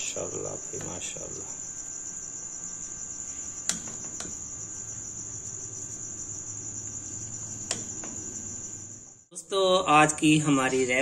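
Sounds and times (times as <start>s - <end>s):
high-pitched insect-like trill: 0.0s - 11.0s.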